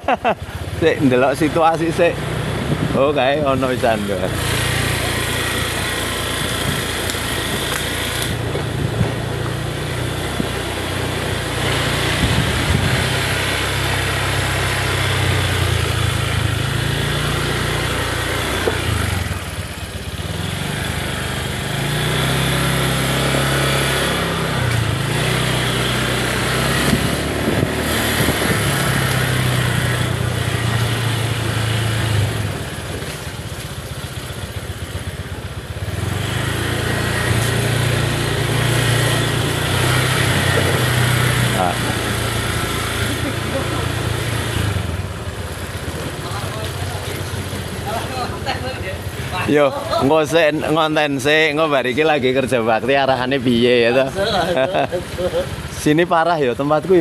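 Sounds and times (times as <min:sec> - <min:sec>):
small motorcycle engine running: 0:00.2 - 0:52.4.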